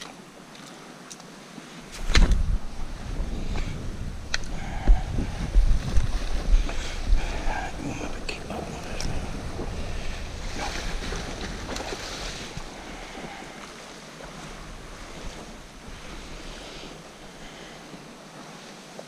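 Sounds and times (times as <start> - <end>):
small waves washing on shore: 0.0 - 19.0
wind buffeting microphone: 1.8 - 18.5.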